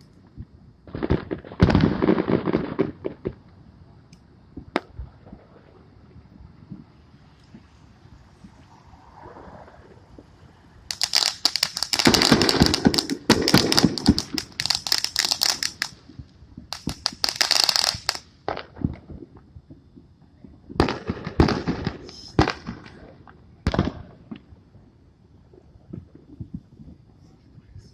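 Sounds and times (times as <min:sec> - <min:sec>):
fireworks crackling pops: 0:00.0 - 0:24.6.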